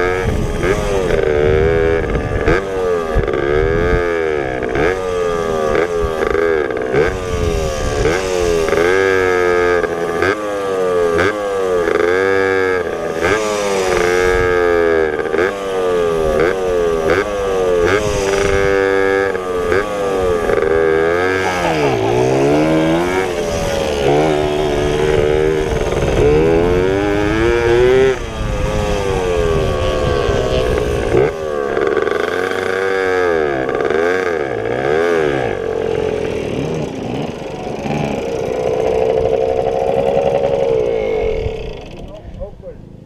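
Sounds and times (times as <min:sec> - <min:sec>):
pit bike engines revving: 0:00.0 - 0:43.0.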